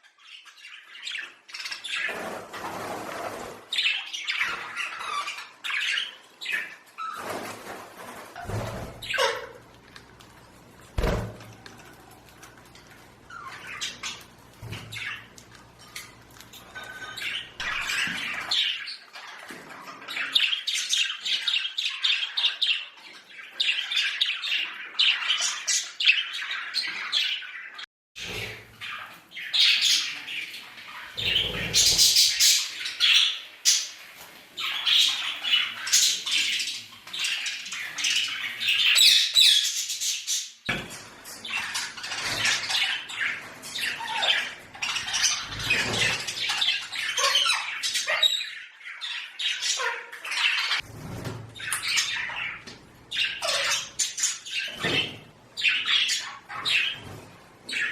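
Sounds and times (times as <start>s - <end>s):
budgerigars chattering and chirping: 3.7s - 7.2s, 13.3s - 40.5s, 41.4s - 50.8s, 51.6s - 57.9s.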